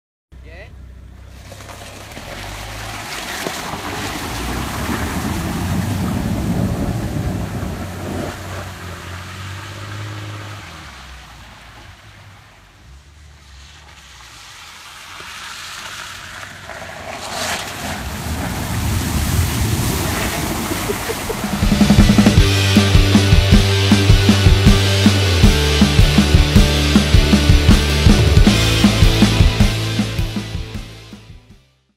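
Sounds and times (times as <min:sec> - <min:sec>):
car engine pulling away: 0:00.4 - 0:31.2
water splashing around wheels: 0:00.8 - 0:30.3.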